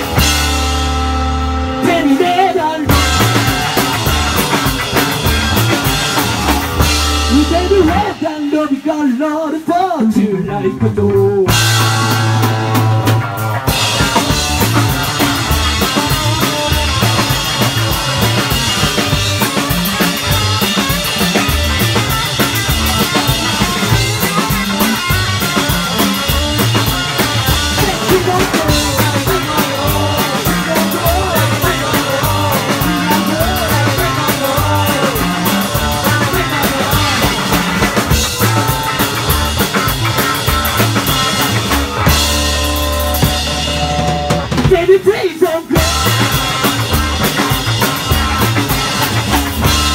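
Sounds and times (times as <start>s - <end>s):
electric bass: 0.0s - 8.7s, 10.0s - 49.9s
electric guitar: 0.0s - 9.3s, 10.0s - 49.9s
driving drumbeat: 0.0s - 49.9s.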